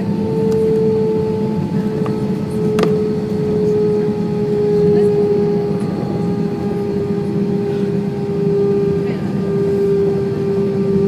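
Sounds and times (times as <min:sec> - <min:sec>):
aircraft engine drone: 0:00.0 - 0:11.0
steady whine: 0:00.0 - 0:11.0.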